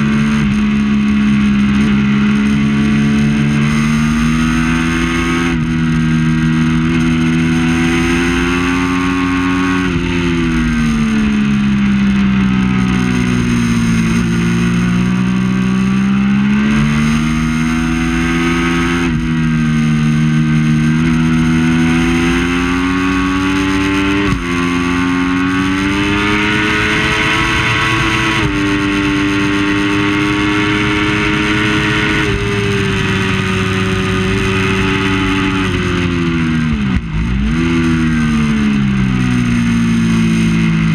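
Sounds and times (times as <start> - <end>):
sport bike engine at racing speed: 0.0 - 40.9.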